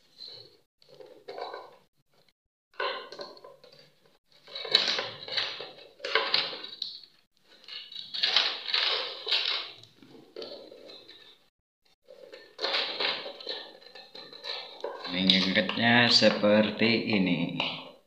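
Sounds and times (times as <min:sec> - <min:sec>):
bamboo slats rattling and scraping: 0:00.0 - 0:06.9, 0:07.5 - 0:16.2.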